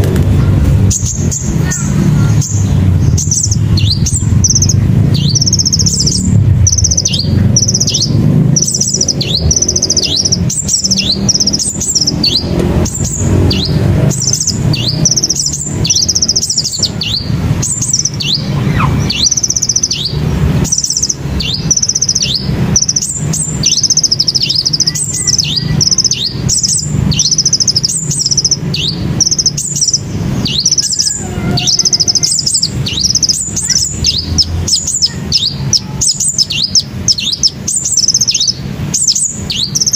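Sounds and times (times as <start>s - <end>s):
steady low rumble: 0.0s - 39.9s
bird calling high thin notes: 0.8s - 39.9s.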